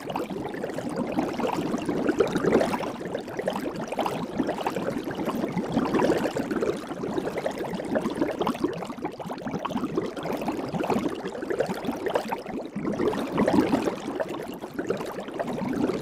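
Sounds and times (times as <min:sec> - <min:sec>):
soap bubbles crackling and popping: 0:00.0 - 0:16.0.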